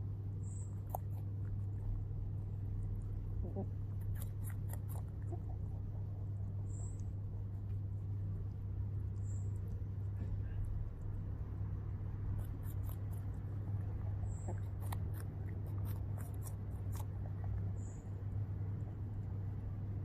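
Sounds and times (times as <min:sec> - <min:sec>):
rabbit crunching apple: 0:00.0 - 0:20.0
steady low hum: 0:00.0 - 0:20.0.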